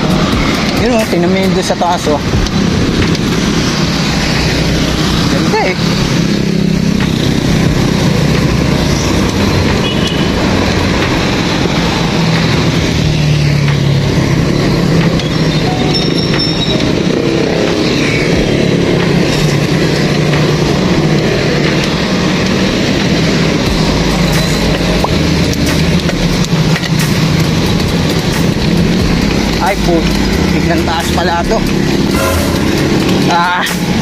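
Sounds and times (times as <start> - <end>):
cars and motorcycles passing: 0.0 - 34.0
traffic drone: 0.0 - 34.0.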